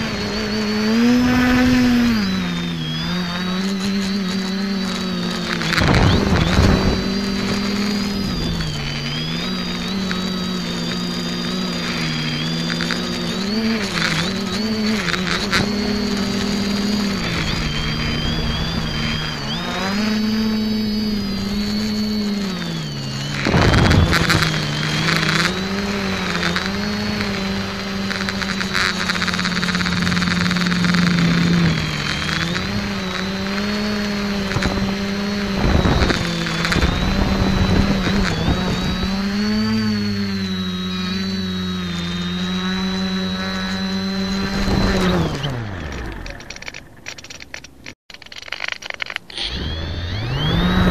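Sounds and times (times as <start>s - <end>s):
bursts of rushing noise: 0.0s - 40.8s
drone motors whining: 0.0s - 50.9s.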